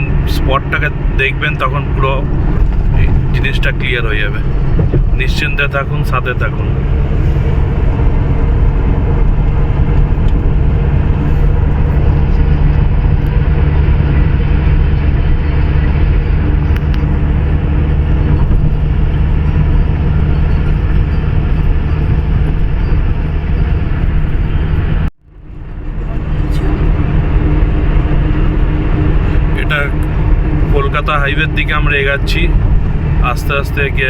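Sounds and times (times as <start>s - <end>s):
engine and tyre rumble: 0.0s - 34.0s.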